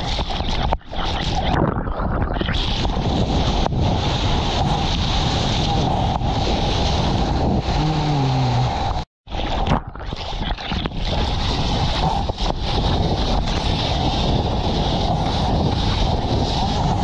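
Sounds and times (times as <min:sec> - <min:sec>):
wind buffeting camera: 0:00.0 - 0:17.0.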